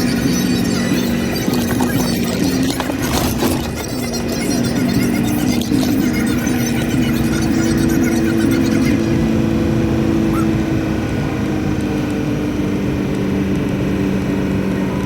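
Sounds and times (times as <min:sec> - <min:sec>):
road noise: 0:00.0 - 0:15.0
truck engine hum: 0:00.0 - 0:15.0.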